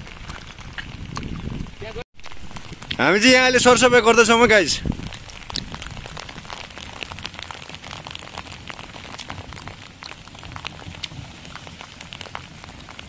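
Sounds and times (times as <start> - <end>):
low rain rumble: 0.0 - 13.0
raindrops ticking: 0.0 - 13.0.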